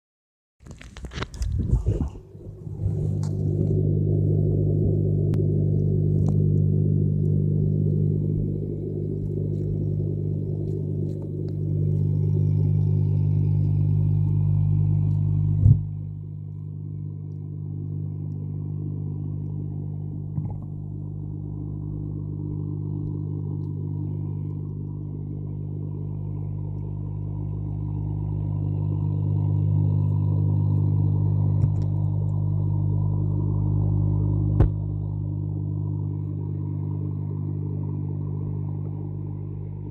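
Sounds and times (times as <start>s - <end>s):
steady low hum: 0.7s - 39.9s.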